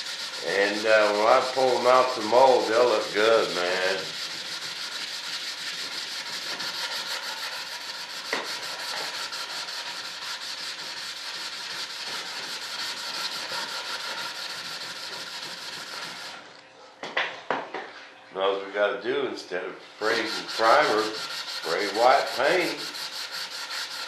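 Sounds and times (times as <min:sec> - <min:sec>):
sandpaper rubbing: 0:00.0 - 0:16.4, 0:20.0 - 0:24.0.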